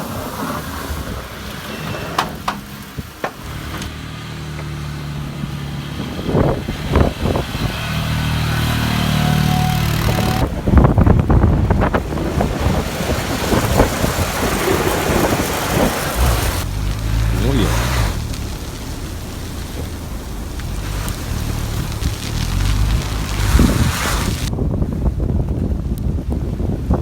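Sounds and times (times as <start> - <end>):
vehicle engine running: 2.5 - 25.5.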